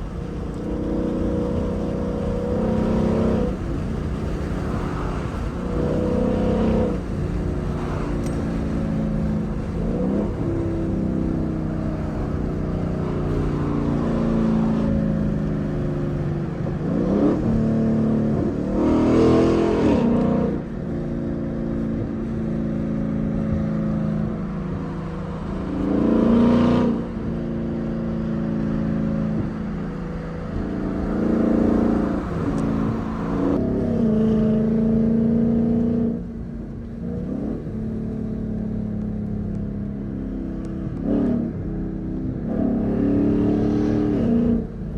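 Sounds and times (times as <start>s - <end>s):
car engine revving on highway: 0.0s - 44.9s.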